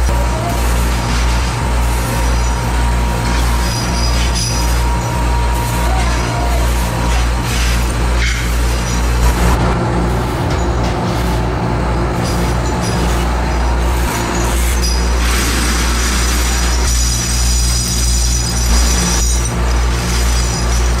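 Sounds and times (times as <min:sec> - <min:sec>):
machinery humming and clattering: 0:00.0 - 0:21.0.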